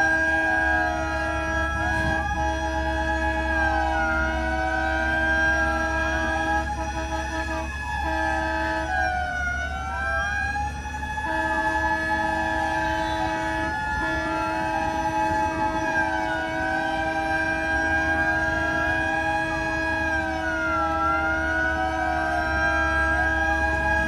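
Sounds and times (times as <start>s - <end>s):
steady horn-like tone: 0.0s - 9.4s, 11.2s - 24.0s
fire truck sirens wailing: 0.0s - 24.0s
low engine rumble: 0.0s - 24.0s.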